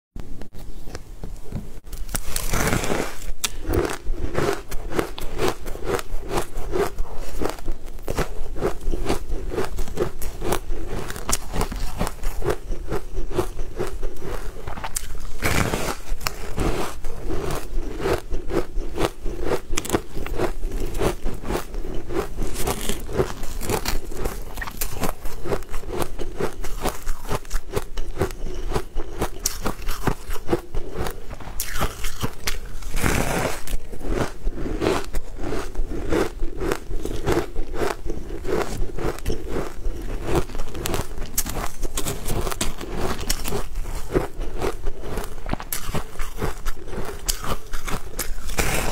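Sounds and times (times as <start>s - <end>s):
biting and crunching ice: 1.9s - 48.9s.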